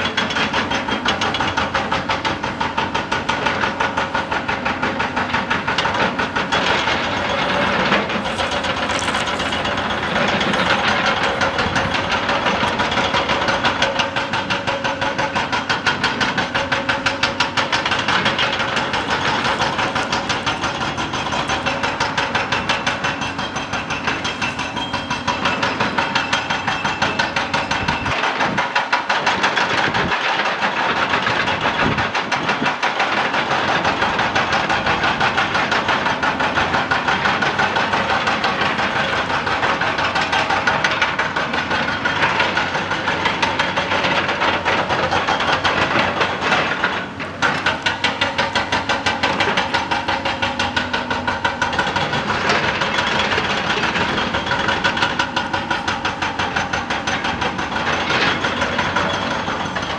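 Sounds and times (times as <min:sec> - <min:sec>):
hydraulic breaker hammering rock: 0:00.0 - 0:59.9.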